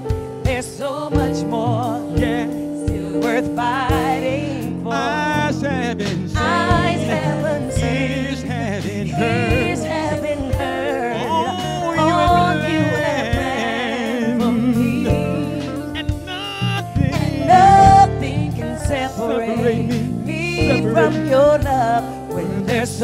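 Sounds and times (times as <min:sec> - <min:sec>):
sustained instrumental accompaniment: 0:00.0 - 0:23.0
solo voice singing: 0:00.5 - 0:23.0.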